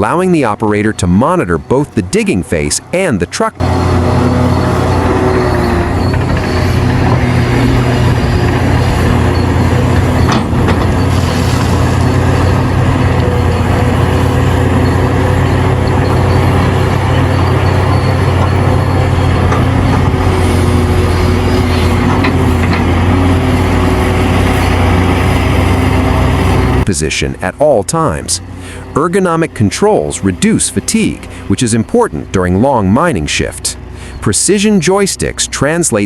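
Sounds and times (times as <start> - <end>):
excavator engine and hydraulics: 0.0 - 36.0.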